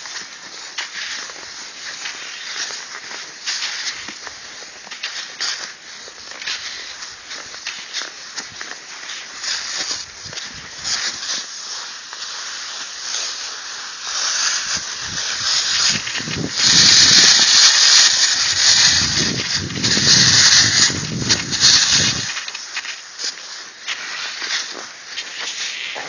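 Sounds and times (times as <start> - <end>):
skis swishing over snow: 0.0 - 26.0.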